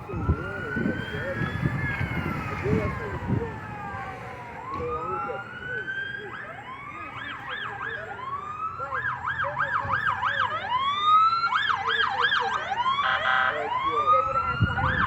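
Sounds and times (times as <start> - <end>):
emergency sirens wailing and yelping: 0.0 - 15.0.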